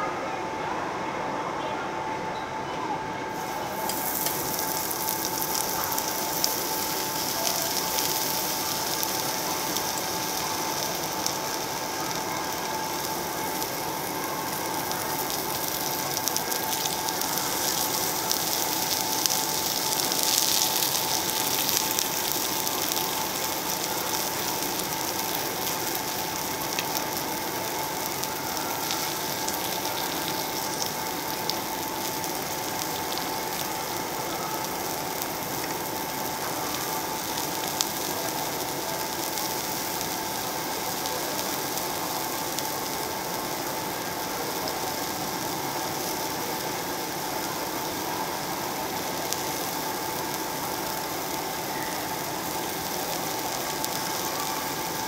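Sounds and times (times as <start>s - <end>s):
pork sizzling on a grill plate: 3.3s - 55.0s.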